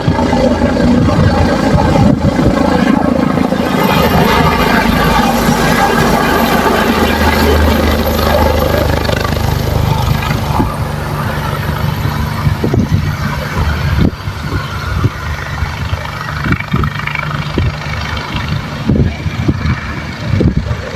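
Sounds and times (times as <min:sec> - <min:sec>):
helicopter engine and rotor: 0:00.0 - 0:20.9.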